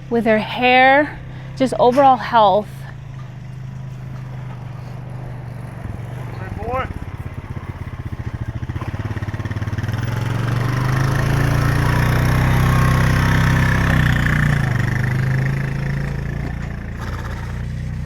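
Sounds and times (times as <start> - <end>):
motor vehicle engine humming: 0.0 - 18.0.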